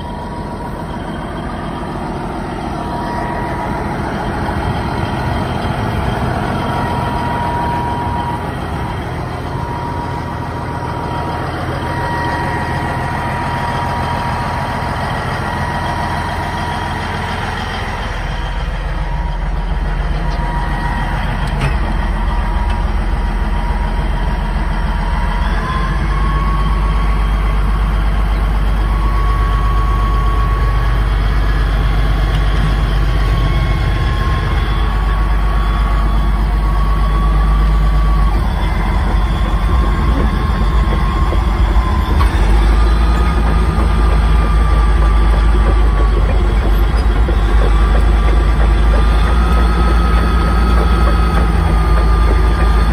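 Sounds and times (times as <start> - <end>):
bulldozer diesel engine rumbling: 0.0 - 52.9
thin steady whine: 0.0 - 52.9.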